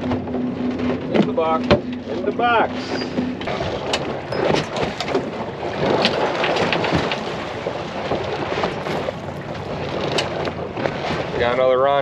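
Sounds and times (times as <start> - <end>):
water washing around boat: 0.0 - 12.0
wind buffeting microphone: 0.0 - 12.0.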